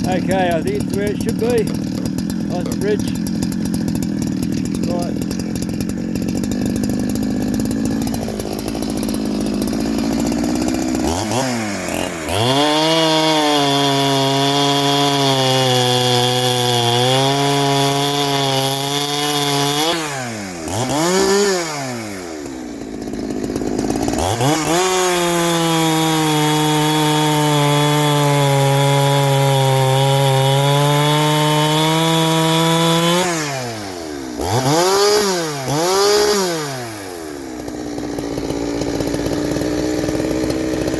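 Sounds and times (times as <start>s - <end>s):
chainsaw cutting wood: 0.0s - 40.9s
chainsaw throttle blips: 0.0s - 40.9s.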